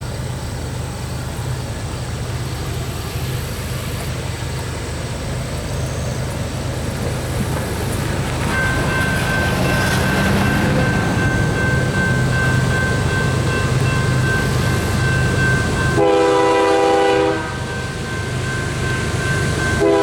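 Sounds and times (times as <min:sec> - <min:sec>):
freight locomotives rumbling: 0:00.0 - 0:20.0
steady high-pitched tone: 0:00.1 - 0:20.0.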